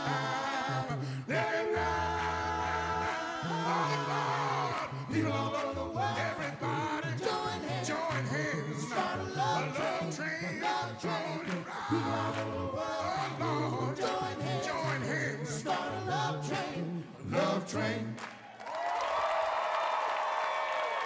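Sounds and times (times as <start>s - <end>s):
lead male voice singing: 0.0s - 18.2s
backing vocal harmonies: 0.0s - 18.5s.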